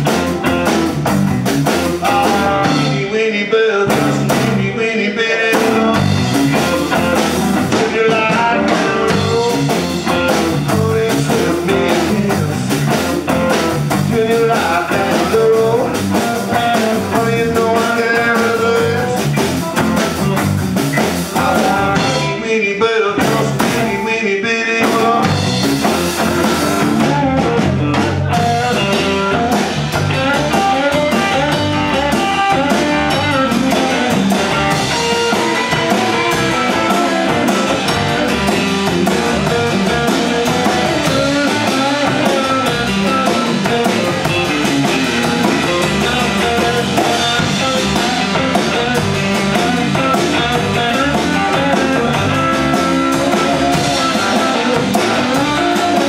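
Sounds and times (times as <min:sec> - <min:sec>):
drum kit: 0:00.0 - 0:03.2, 0:03.8 - 0:04.8, 0:05.5 - 0:22.4, 0:23.2 - 0:24.2, 0:24.8 - 0:56.0
electric guitar lead lines: 0:00.0 - 0:56.0.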